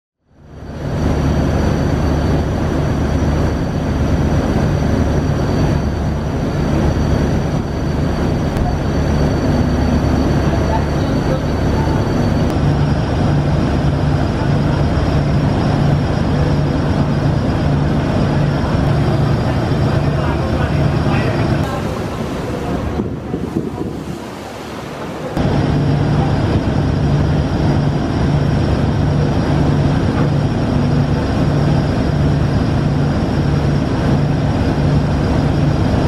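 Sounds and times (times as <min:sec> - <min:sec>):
boat engines droning: 0:00.2 - 0:36.0
wind: 0:00.2 - 0:36.0
churning water and spray: 0:00.4 - 0:36.0.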